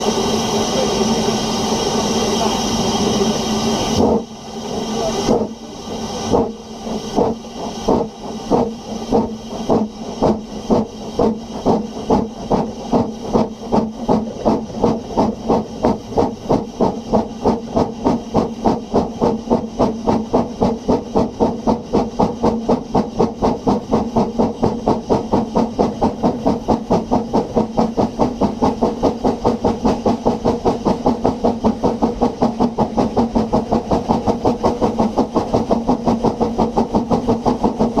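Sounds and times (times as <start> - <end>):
steam locomotive chuffing: 0.0 - 38.0.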